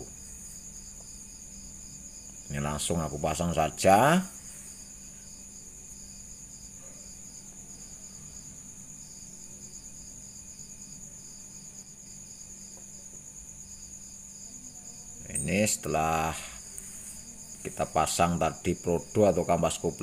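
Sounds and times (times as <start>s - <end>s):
faint low hum: 0.0s - 20.0s
insect trill: 0.0s - 20.0s
pulsing insect chirp: 0.0s - 20.0s.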